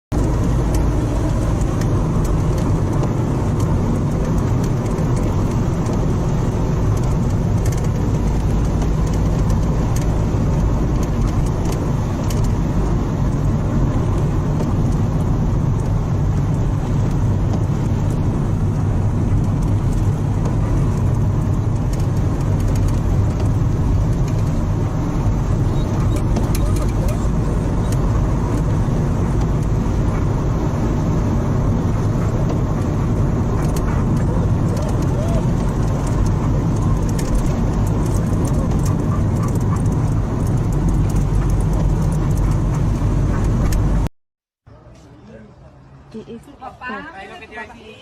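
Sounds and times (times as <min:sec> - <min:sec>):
vehicle running rumble: 0:00.1 - 0:44.1.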